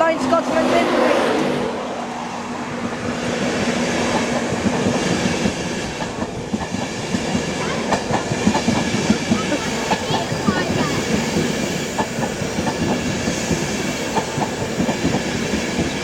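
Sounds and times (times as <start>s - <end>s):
train wheels clattering over rail joints: 3.0s - 16.0s.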